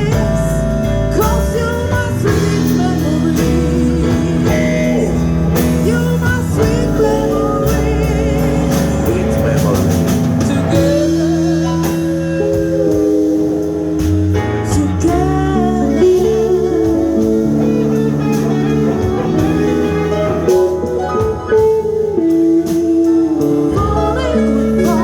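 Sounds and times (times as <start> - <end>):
guitar: 0.0 - 25.0
jazz band playing slow blues: 0.0 - 25.0.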